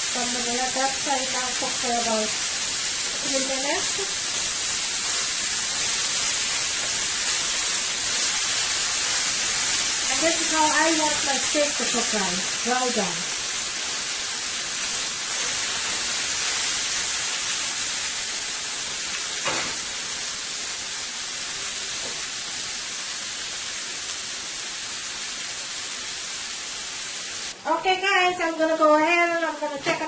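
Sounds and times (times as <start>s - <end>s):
steak sizzling on grill pan: 0.0s - 29.8s.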